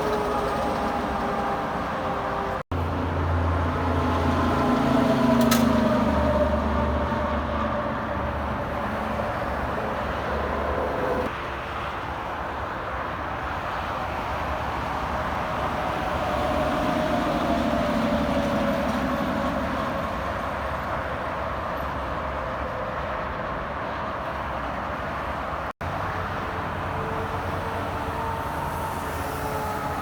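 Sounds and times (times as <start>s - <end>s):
highway traffic noise: 0.0s - 30.0s.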